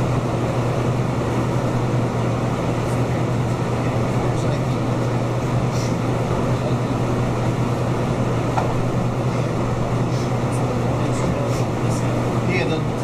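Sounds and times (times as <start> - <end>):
ventilation hum and rushing: 0.0 - 13.0.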